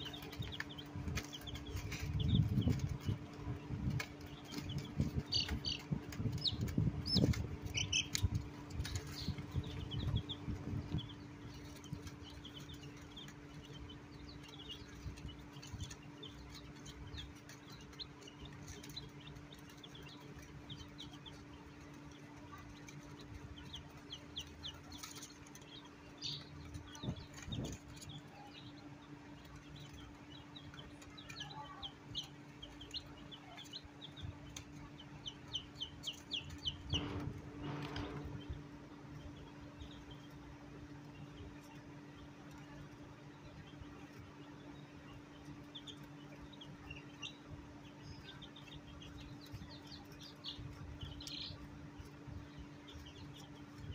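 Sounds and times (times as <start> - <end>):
chicks peeping: 0.0 - 53.9
steady low hum: 0.0 - 53.9.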